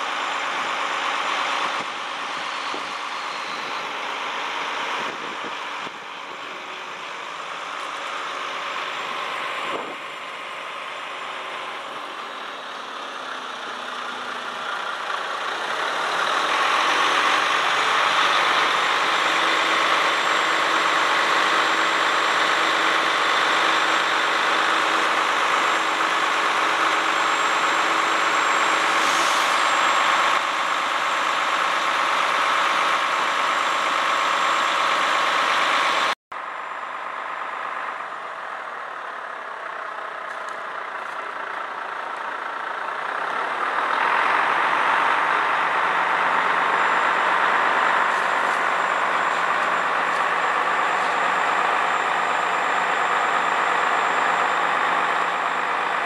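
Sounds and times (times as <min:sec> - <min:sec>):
lorry engine running under load: 0:00.0 - 0:56.0.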